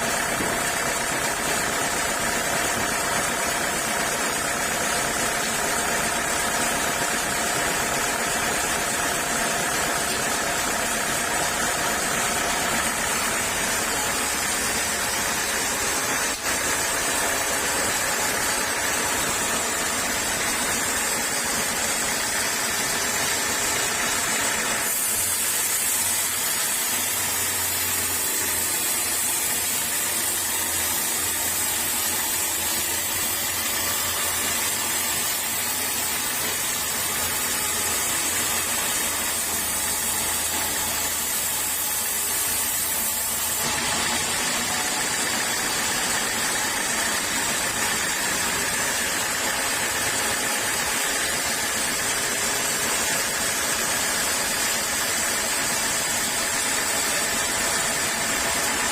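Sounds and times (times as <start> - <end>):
sawmill saw hissing: 0.0 - 58.9.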